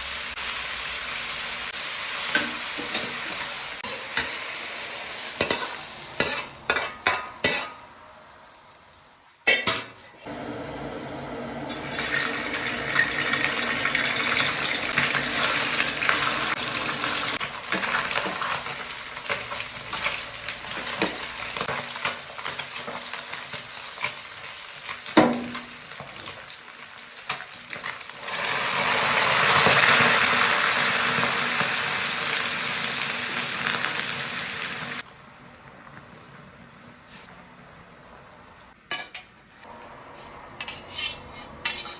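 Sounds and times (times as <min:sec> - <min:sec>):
food sizzling in a pan: 0:00.0 - 0:35.1.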